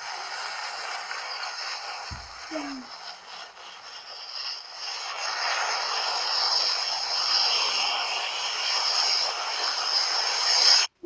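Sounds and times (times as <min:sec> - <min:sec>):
matches burning with hiss: 0:00.0 - 0:10.9.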